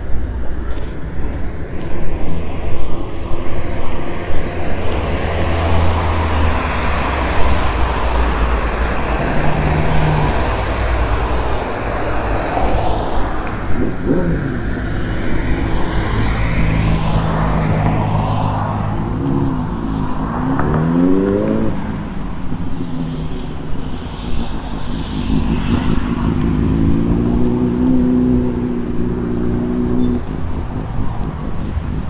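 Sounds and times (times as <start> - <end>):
engine humming steadily: 0.0 - 32.0
vehicles passing close by: 0.0 - 32.0
engine accelerating: 1.8 - 32.0.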